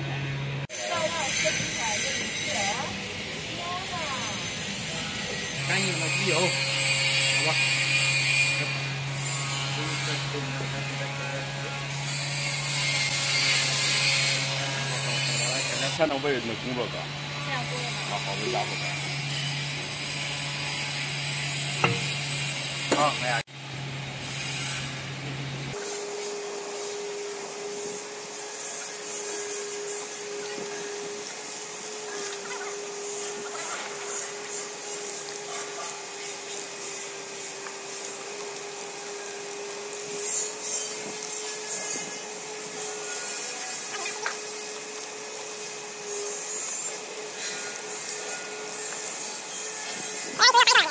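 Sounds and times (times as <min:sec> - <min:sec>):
workshop machine hum: 0:00.0 - 0:50.9.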